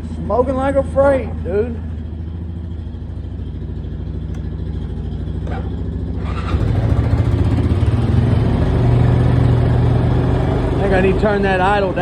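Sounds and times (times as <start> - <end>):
off-road vehicle engine idling: 0.0 - 12.0.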